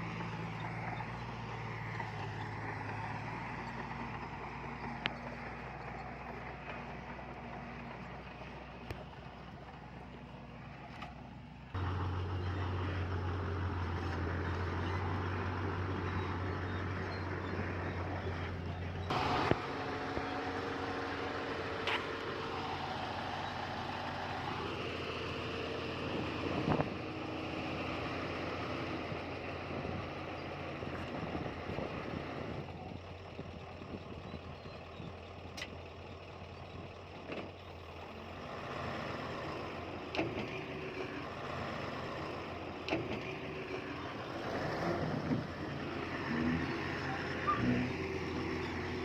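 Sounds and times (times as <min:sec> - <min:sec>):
heavy diesel machinery running: 0:00.0 - 0:49.0.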